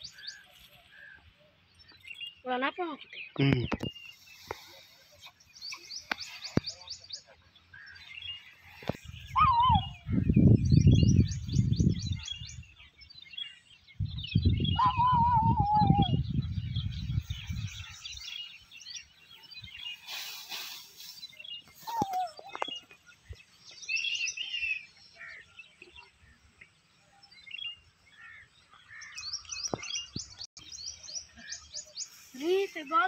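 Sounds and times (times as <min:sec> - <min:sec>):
birds chirping in trills: 0:00.0 - 0:33.0.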